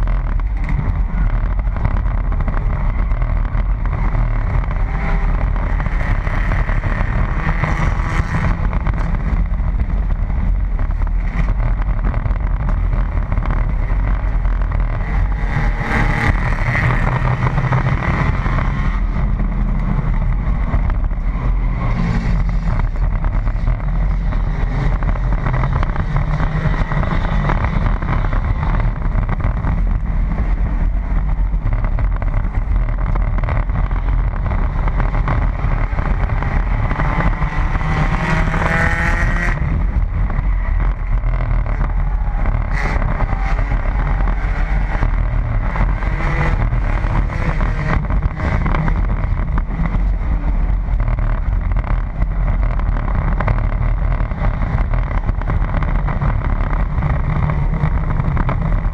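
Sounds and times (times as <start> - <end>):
other race cars nearby: 0.0 - 58.9
race car engine under load: 0.0 - 58.9
road and wind noise: 0.0 - 58.9.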